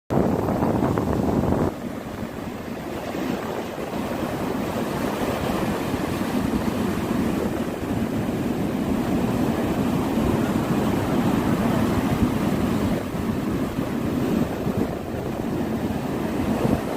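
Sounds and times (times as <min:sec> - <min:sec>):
sea waves breaking on beach: 0:00.2 - 0:16.9.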